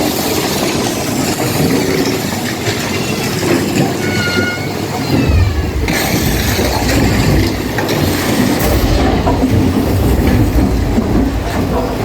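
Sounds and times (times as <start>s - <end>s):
roller coaster wheels rumbling on rails: 0.0s - 12.0s.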